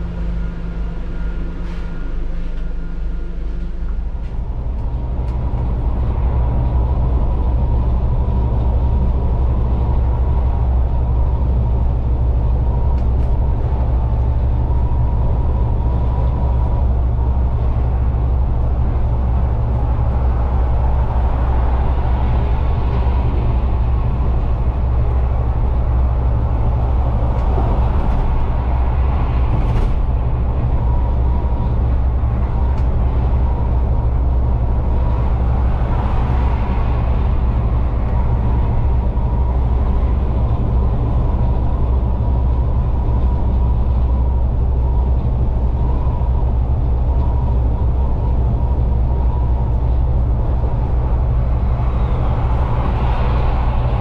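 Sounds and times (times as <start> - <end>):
diesel bus engine drone: 0.0 - 54.0
faint steady whine: 0.0 - 54.0
tyre and road noise: 0.0 - 54.0.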